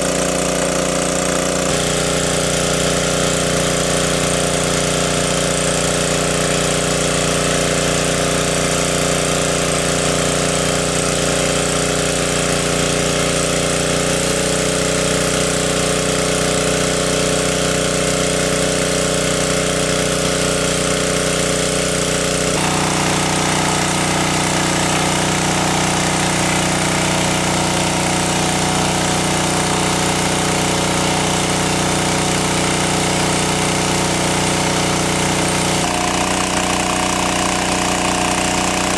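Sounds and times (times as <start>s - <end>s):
motor running: 0.0s - 38.9s.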